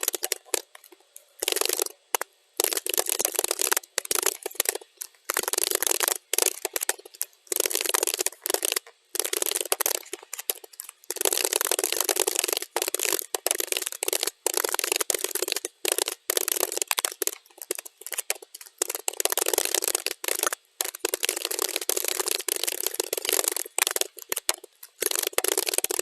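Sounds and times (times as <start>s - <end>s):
keyboard typing: 0.0s - 26.0s.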